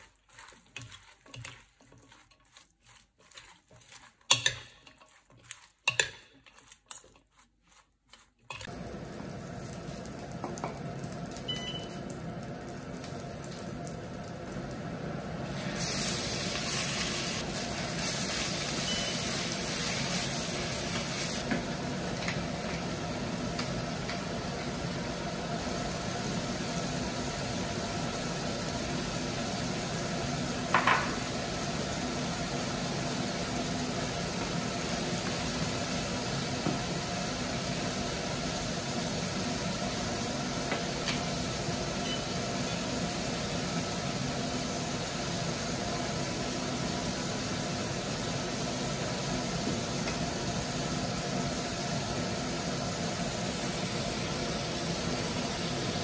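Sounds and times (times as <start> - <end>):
food sizzling in a pan: 0.0 - 7.1, 8.4 - 56.0.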